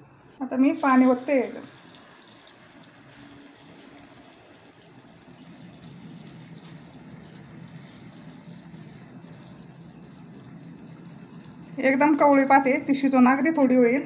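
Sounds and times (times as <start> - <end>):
water pouring into steel bowl: 0.6 - 13.1.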